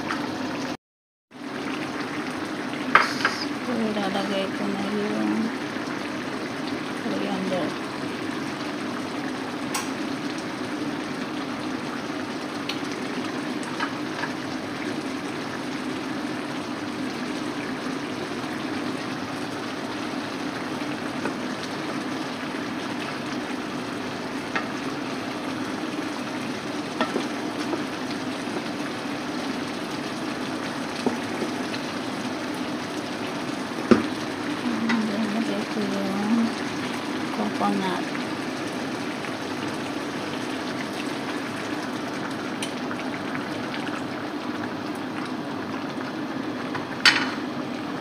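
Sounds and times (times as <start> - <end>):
curry bubbling in a pan: 1.4 - 48.0.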